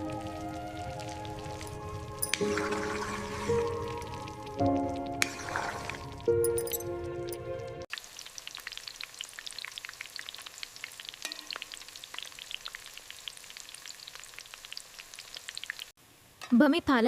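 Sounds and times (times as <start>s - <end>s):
hot oil crackling and sizzling: 0.0s - 16.0s.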